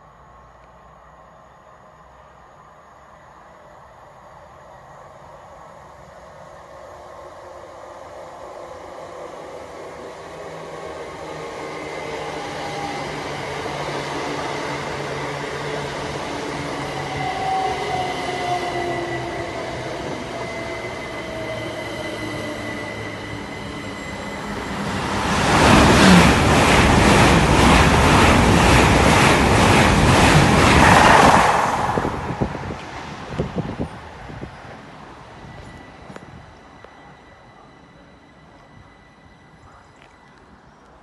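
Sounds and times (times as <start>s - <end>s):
train rushing past: 4.8s - 40.8s.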